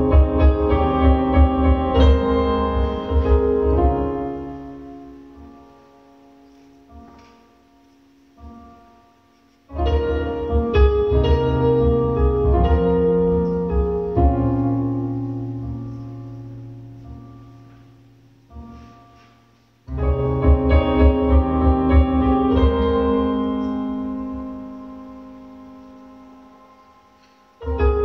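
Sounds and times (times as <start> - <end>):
piano chords: 0.0 - 28.0.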